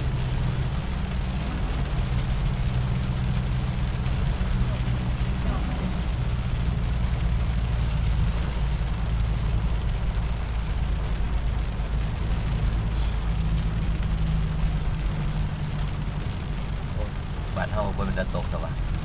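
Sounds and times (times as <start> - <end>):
car engine and tyres on wet road: 0.0 - 19.0
rain hissing on windshield: 0.0 - 19.0.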